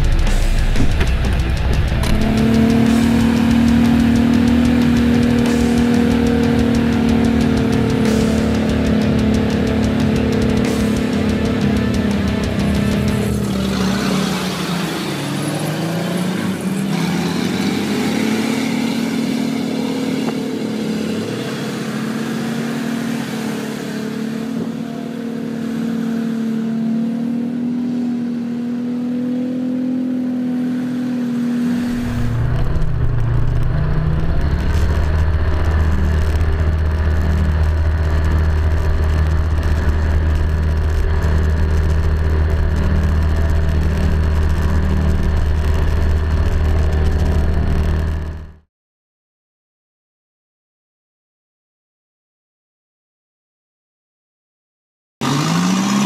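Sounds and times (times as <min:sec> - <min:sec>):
off-road vehicle engine revving: 0:00.0 - 0:48.6, 0:55.2 - 0:56.0
deep engine drone: 0:00.0 - 0:48.7.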